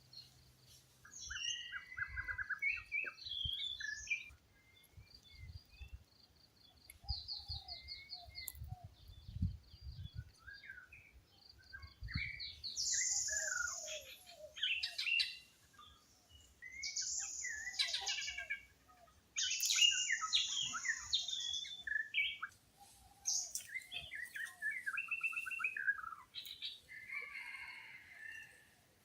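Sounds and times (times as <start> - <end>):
wild birds chirping and trilling: 0.0 - 29.0.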